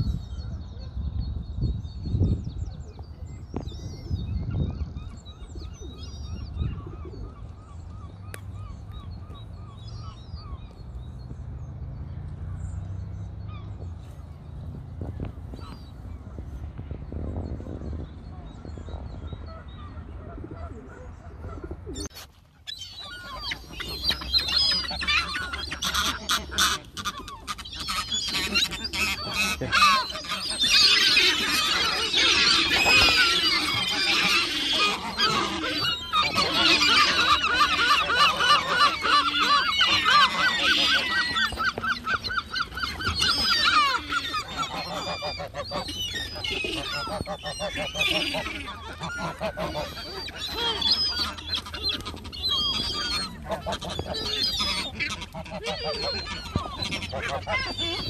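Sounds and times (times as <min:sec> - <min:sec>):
gulls calling: 0:02.3 - 0:58.0.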